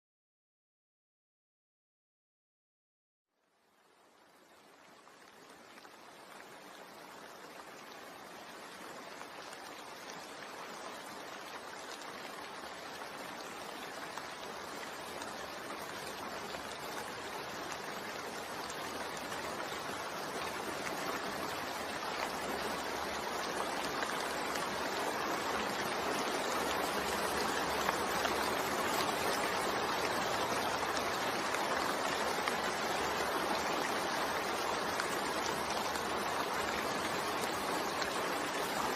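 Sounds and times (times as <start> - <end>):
steady rain falling: 3.4 - 38.9.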